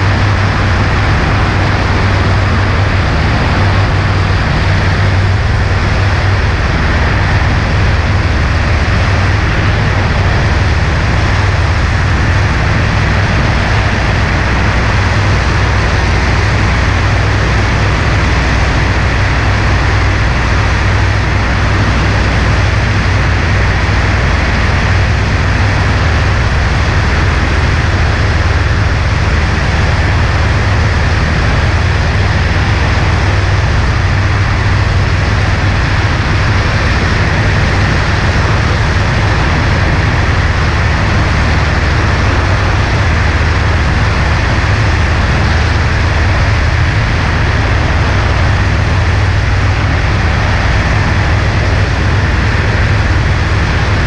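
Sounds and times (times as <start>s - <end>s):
airflow rushing over wing: 0.0s - 54.0s
airplane engine and propeller drone: 0.0s - 54.0s.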